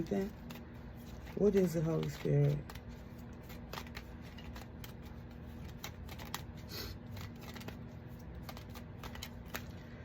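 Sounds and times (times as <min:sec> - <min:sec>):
cards shuffling: 0:00.0 - 0:10.0
low steady hum: 0:00.0 - 0:10.0.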